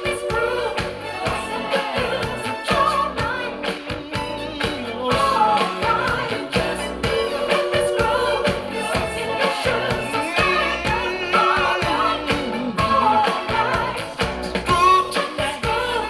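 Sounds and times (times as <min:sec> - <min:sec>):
pop-funk song over loudspeakers: 0:00.0 - 0:16.0.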